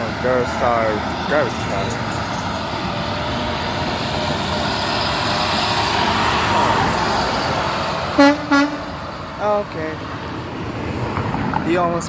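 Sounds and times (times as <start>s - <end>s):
garbage truck driving past: 0.0s - 11.6s.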